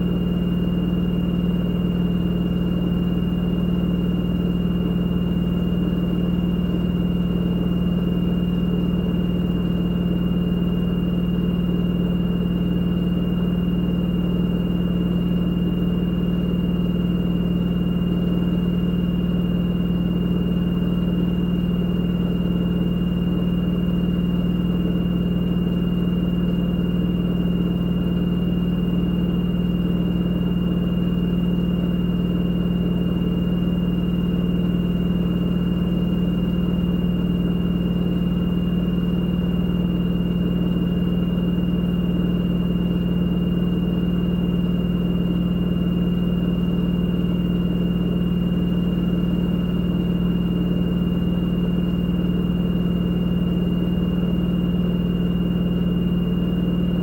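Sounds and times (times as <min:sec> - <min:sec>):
high-pitched motor whine: 0:00.0 - 0:57.0.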